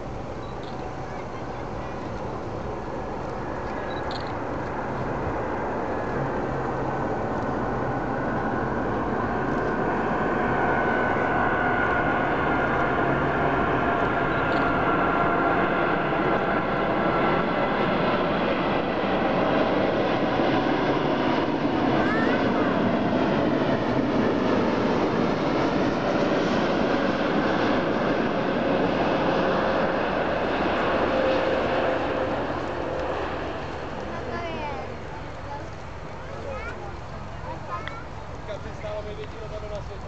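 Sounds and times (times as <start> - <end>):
faint engine whine: 0.0 - 40.0
jet engines rushing: 0.0 - 40.0.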